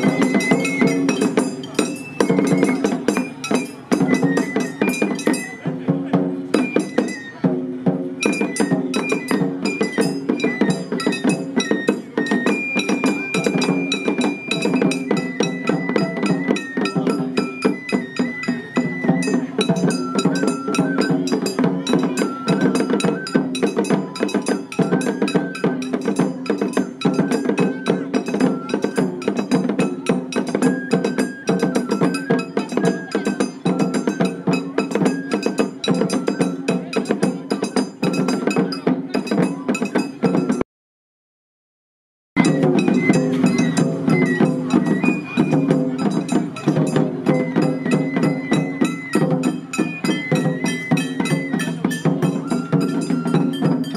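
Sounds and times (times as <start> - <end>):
bamboo flute melody: 0.0 - 40.6, 42.4 - 53.9
taiko drums beating: 0.0 - 40.6, 42.4 - 53.9.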